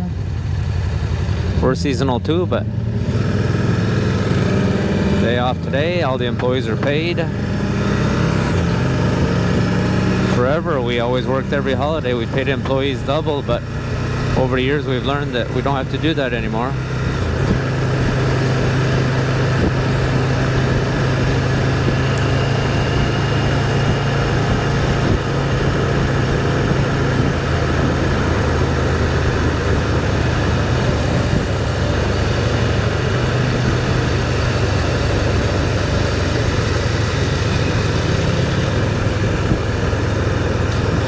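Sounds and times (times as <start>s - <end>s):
motorcycle engine droning: 0.0s - 41.0s
wind and road noise: 0.0s - 41.0s.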